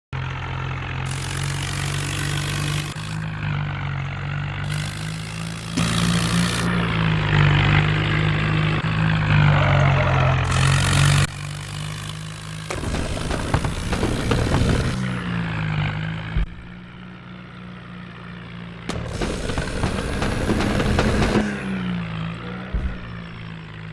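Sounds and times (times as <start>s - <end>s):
tractor diesel engine running: 0.2s - 23.9s.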